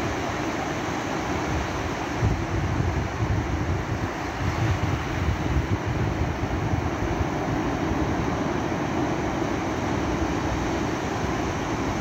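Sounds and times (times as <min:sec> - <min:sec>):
waves breaking on sand: 0:00.0 - 0:12.0.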